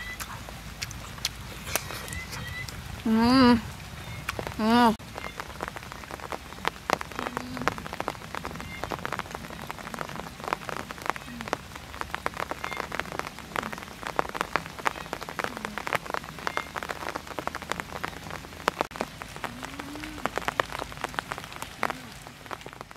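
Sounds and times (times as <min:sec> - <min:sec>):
rain drops ticking on leaves: 0:00.0 - 0:22.9.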